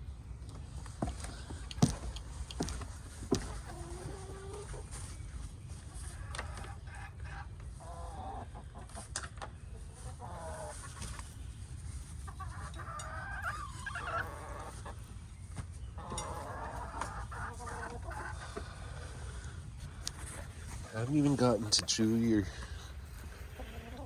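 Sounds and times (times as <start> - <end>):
hens clucking: 1.0 - 24.0.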